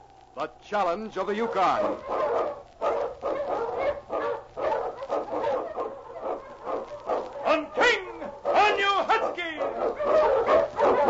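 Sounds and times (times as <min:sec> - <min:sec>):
sled dogs barking and yelping: 0:01.2 - 0:11.0.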